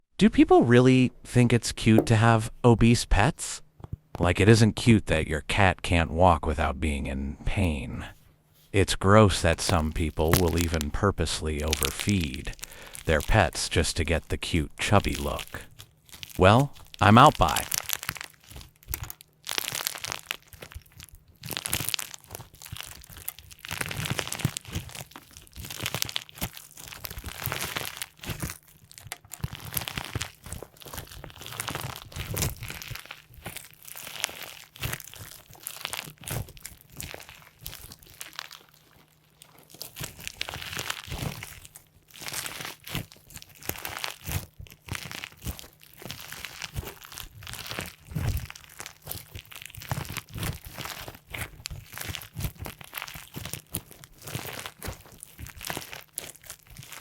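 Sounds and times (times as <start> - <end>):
slime squeezed with crackling pops: 9.4 - 57.0.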